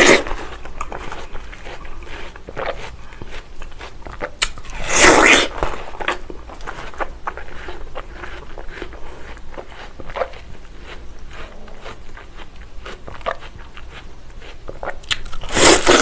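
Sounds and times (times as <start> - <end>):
crunchy bite into watermelon: 0.0 - 16.0
wet chewing: 0.0 - 16.0.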